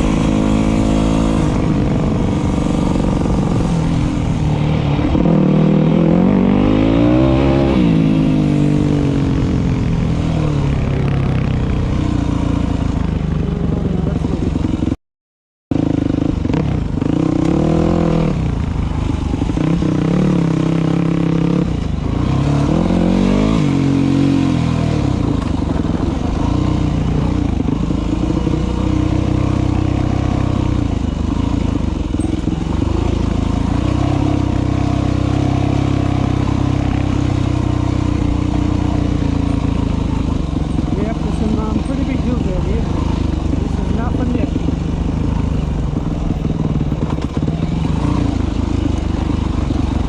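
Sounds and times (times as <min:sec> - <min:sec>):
dirt bike engine revving: 0:00.0 - 0:15.0, 0:15.7 - 0:50.0.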